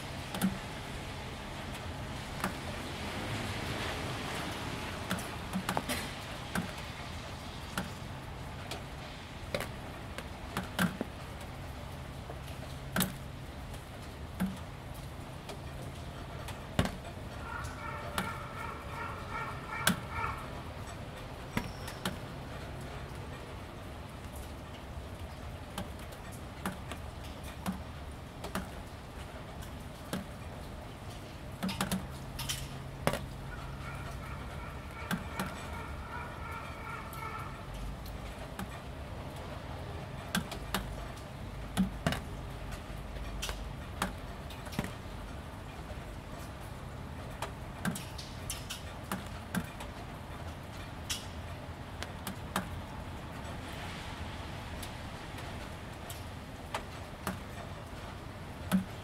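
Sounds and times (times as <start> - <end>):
rain dripping on plastic roofing: 0.0 - 59.0.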